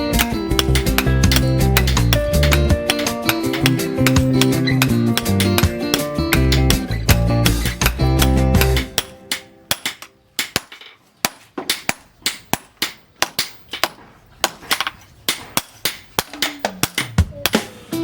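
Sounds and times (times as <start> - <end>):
hammer striking steel on anvil: 0.0 - 17.9.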